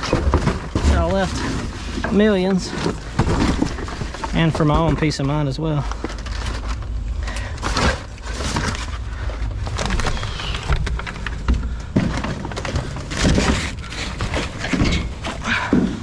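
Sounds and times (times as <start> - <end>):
junk knocking and clattering: 0.0 - 8.9, 9.7 - 16.0
steady low rumble: 0.0 - 16.0.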